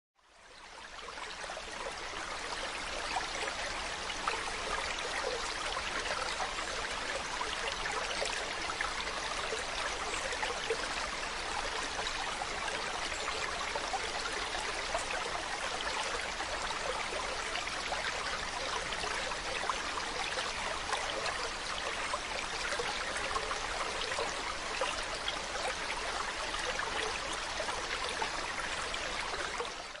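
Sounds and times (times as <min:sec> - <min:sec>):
water flowing: 0:00.2 - 0:30.0.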